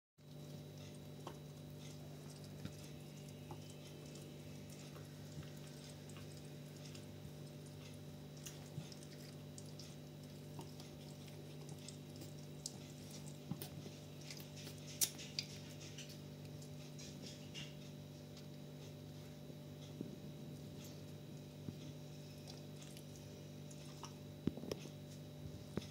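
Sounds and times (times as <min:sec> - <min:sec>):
steady low hum: 0:00.2 - 0:25.9.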